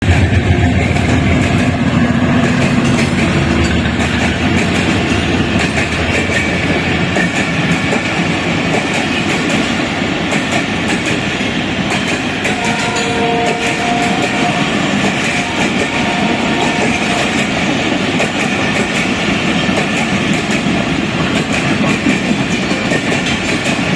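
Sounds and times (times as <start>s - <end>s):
train rumbling on rails: 0.0s - 23.9s
wheels clicking over track: 0.0s - 23.9s.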